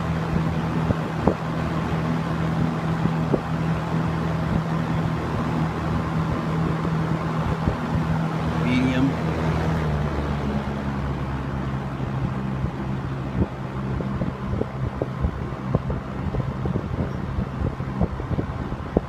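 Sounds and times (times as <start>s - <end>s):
box fan humming: 0.0s - 19.0s.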